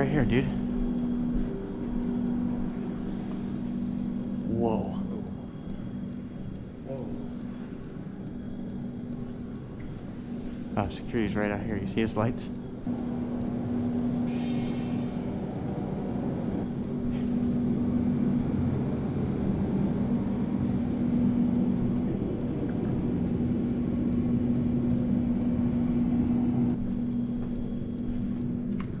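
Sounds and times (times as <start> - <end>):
low droning machine hum: 0.0 - 29.0
low rumble: 0.0 - 29.0.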